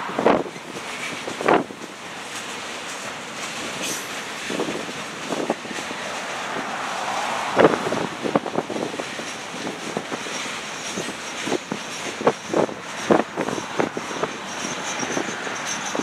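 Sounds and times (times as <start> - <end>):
steady rush of noise: 0.0 - 16.0
train wheels clanking on rails: 0.0 - 16.0.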